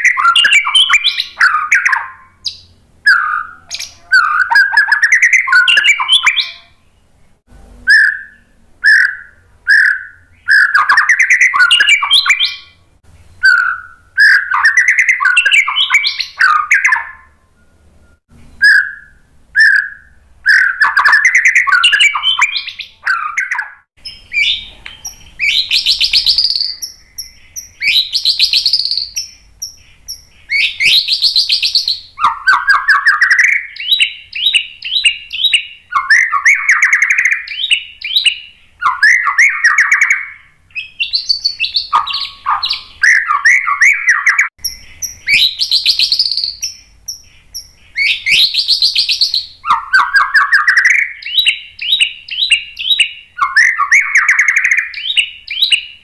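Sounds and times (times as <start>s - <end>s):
bird song with trills and whistles: 0.0s - 56.0s.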